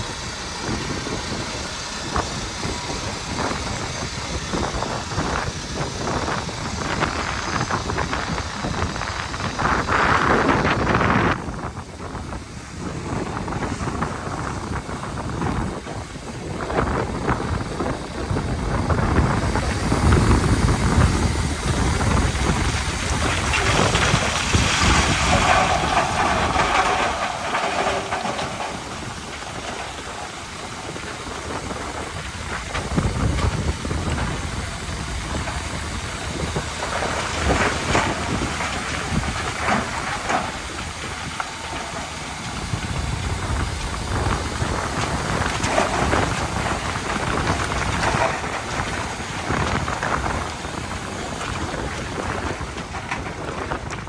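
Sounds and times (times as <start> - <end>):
diesel engines rumbling: 0.0 - 54.0.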